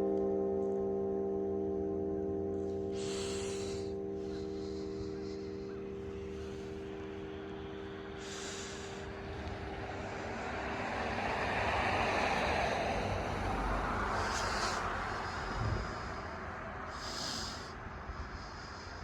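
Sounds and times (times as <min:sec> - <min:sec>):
church bell hum: 0:00.0 - 0:16.8
vehicle passing by: 0:03.0 - 0:19.0.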